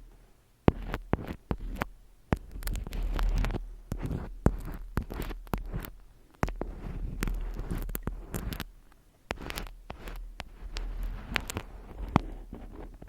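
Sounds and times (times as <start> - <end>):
low steady hum: 0.0 - 13.0
soft rustling: 0.0 - 13.0
sharp taps and clicks: 0.7 - 13.0.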